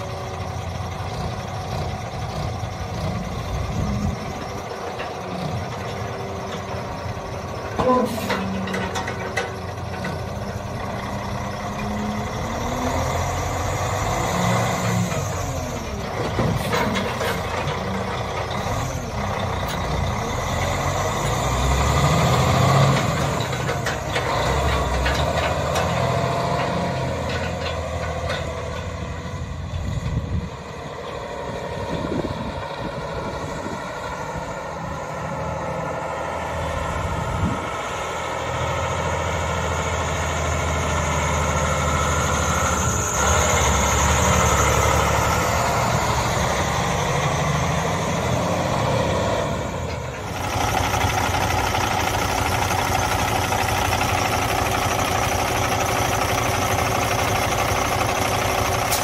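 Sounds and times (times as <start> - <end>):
diesel truck engine driving off: 0.0 - 59.0.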